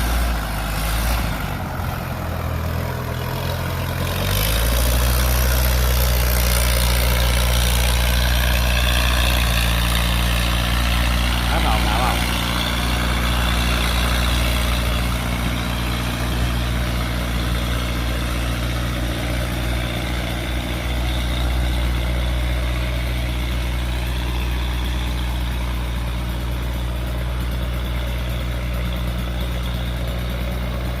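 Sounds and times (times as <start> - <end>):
diesel engine running steadily: 0.0 - 31.0.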